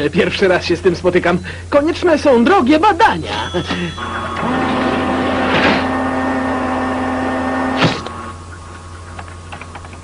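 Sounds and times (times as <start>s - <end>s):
steady electric hum: 0.0s - 10.0s.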